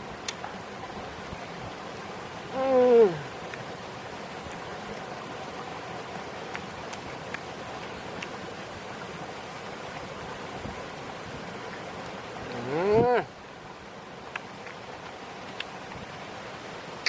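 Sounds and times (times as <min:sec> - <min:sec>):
wind hiss: 0:00.0 - 0:17.0.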